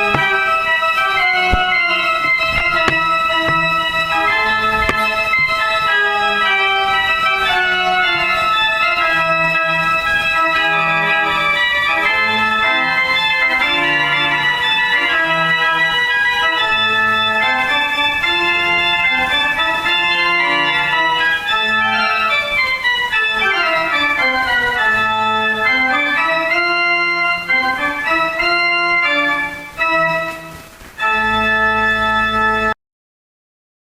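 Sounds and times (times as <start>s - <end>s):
organ music: 0.0s - 32.8s.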